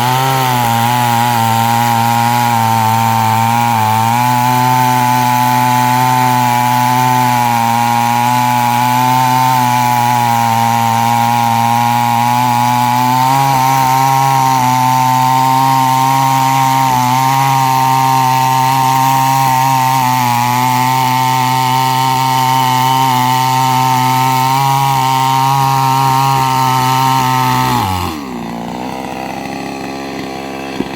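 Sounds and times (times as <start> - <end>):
chainsaw cutting wood: 0.0 - 30.9.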